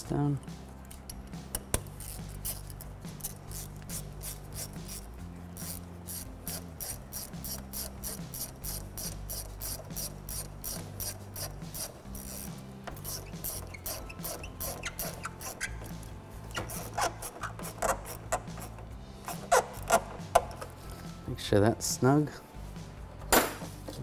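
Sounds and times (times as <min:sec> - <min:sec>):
ratchet clicking: 0:00.9 - 0:20.8.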